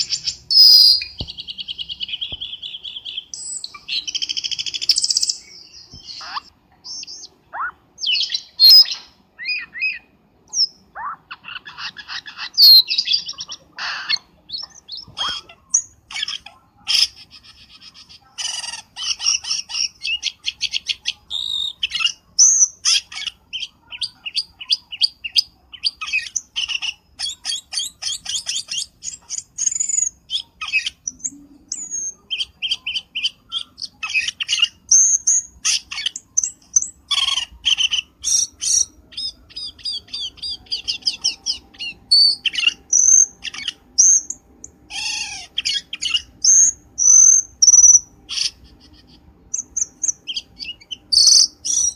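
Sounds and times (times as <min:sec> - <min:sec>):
bird chirps and whistles: 0:00.0 - 0:17.2, 0:18.5 - 0:51.9.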